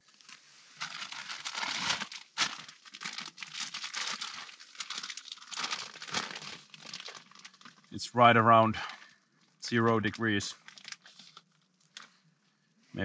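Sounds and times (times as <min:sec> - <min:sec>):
plastic crinkling and rustling: 0:00.0 - 0:08.0, 0:08.8 - 0:12.3.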